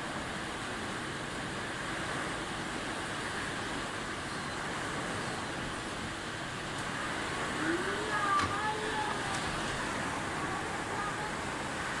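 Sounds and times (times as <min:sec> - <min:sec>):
heavy rain: 0:00.0 - 0:12.0
wind gusts: 0:00.0 - 0:12.0.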